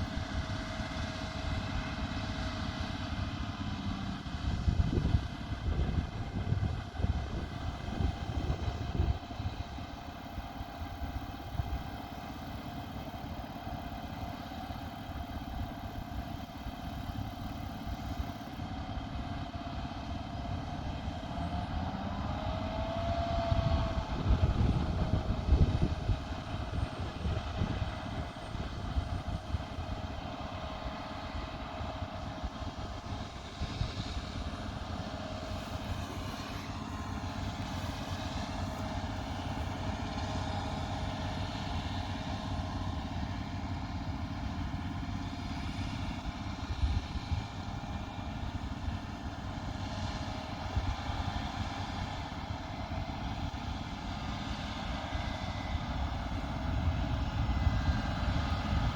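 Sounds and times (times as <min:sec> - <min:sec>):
combine harvester running: 0:00.0 - 0:58.9.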